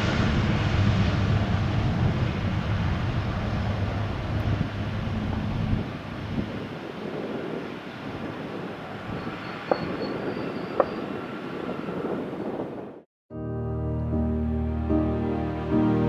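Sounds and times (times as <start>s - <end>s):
jet engines rolling out: 0.0s - 13.1s.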